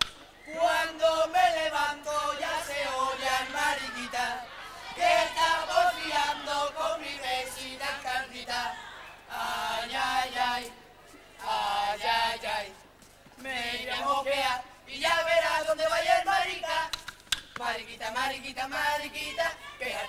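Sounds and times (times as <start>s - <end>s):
young men singing together: 0.5s - 20.0s.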